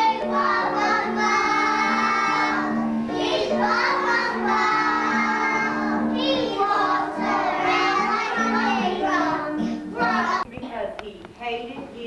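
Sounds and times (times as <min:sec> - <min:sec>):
children singing together: 0:00.0 - 0:10.5.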